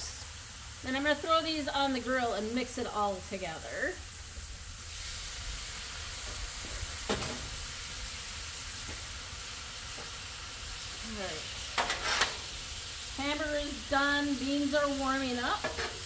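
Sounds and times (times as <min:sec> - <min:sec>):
food sizzling on a griddle: 0:00.0 - 0:16.0.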